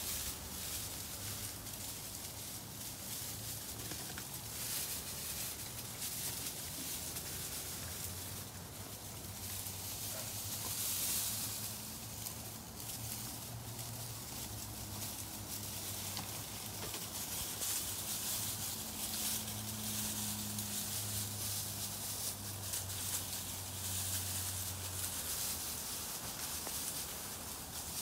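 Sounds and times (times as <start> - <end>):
straw rustling and crackling: 0.0 - 28.0.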